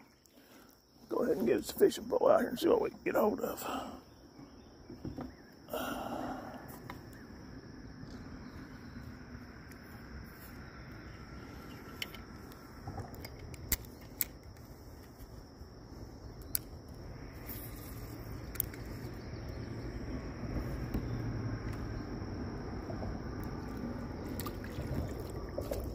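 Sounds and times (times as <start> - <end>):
high insect drone: 0.0 - 25.9.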